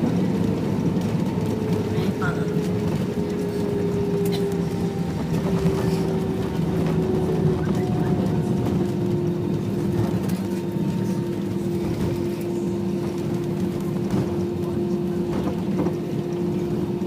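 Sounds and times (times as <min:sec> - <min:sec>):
airplane cabin engine roar: 0:00.0 - 0:17.0
constant hum: 0:00.0 - 0:17.0.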